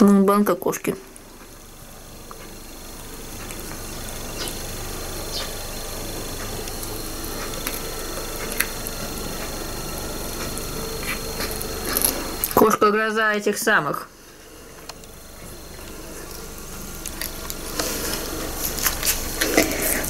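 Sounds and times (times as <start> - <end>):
steady low rumble: 1.0 - 20.0.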